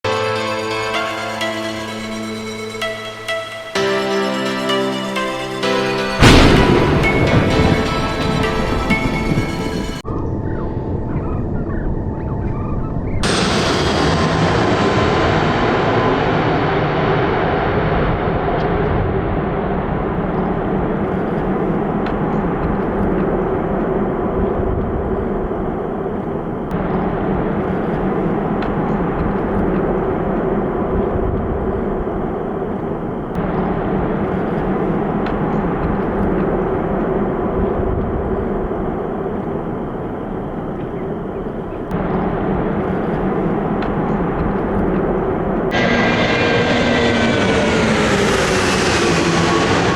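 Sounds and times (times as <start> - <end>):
jet engines rumbling: 0.1 - 49.9.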